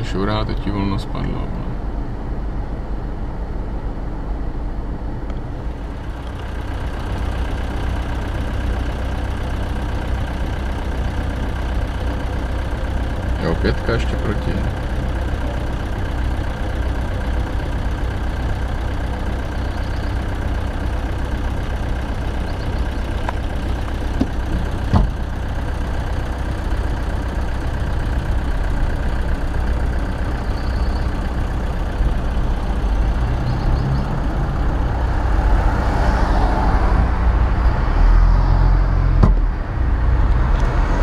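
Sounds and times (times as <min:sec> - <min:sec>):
vehicle engines idling: 0:00.0 - 0:41.0.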